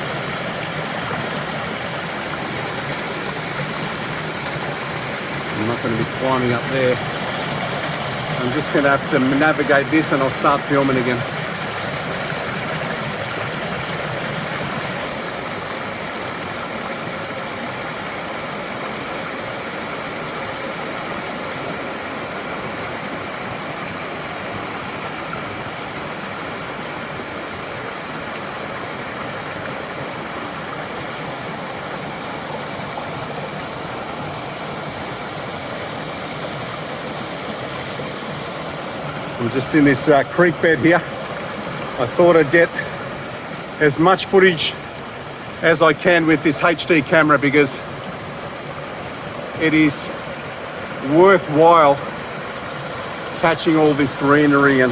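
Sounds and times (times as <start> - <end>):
creek water rushing over rocks: 0.0 - 54.9.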